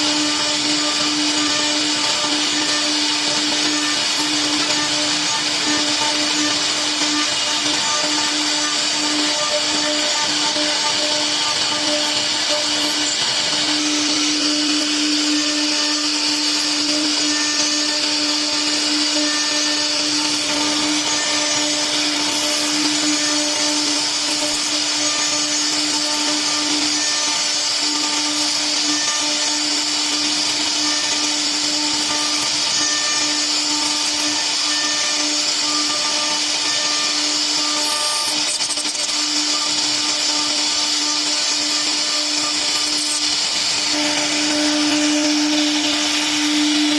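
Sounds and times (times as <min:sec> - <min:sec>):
router spindle high whine: 0:00.0 - 0:46.9
wood cutting hiss: 0:00.0 - 0:46.9.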